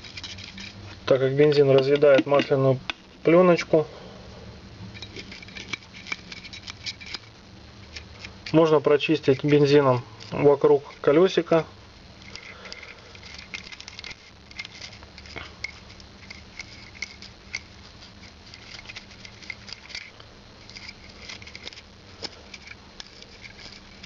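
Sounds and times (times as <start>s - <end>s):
brush scratching on metal: 0.0s - 3.6s, 4.9s - 11.6s, 12.2s - 24.0s.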